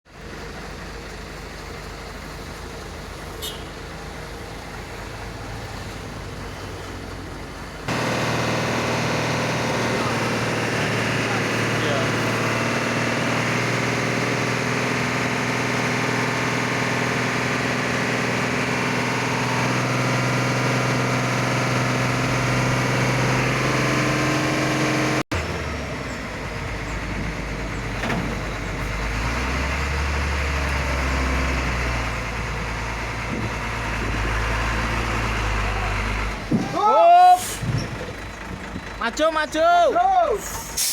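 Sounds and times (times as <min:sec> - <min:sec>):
deep low engine rumble: 0:00.1 - 0:40.9
truck diesel engine running: 0:00.1 - 0:40.9.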